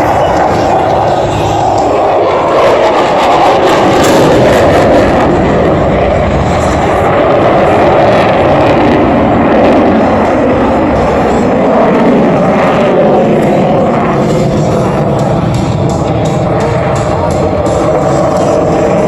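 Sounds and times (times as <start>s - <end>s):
fighter jet noise: 0.0s - 19.0s.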